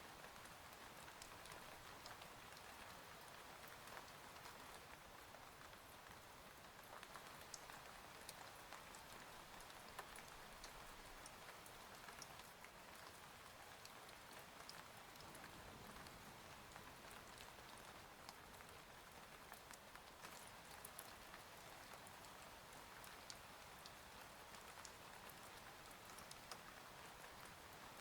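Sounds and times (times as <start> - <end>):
soft rain patter: 0.0 - 28.0.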